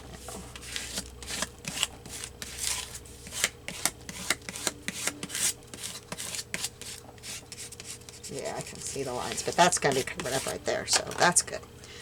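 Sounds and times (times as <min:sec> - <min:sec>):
paper rustling and rubbing: 0:00.0 - 0:10.6.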